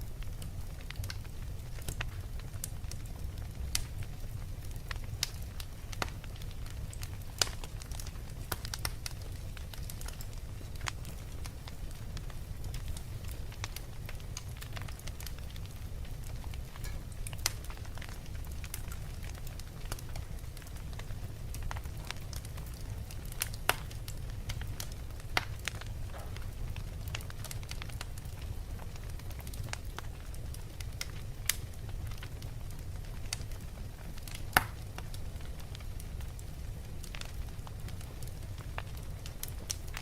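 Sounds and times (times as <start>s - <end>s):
fire crackling and popping: 0.0s - 40.0s
fire flames rumbling: 0.0s - 40.0s.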